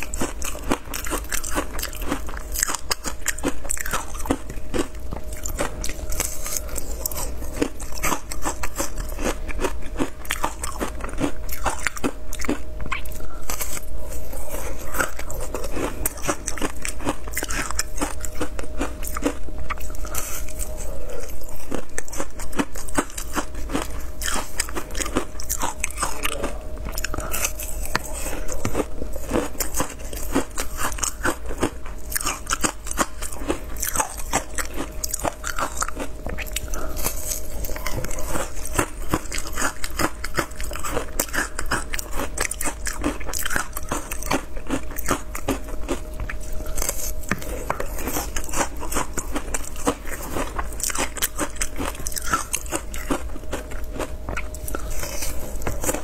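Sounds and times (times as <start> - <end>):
ice being chewed with crunches: 0.0 - 56.0.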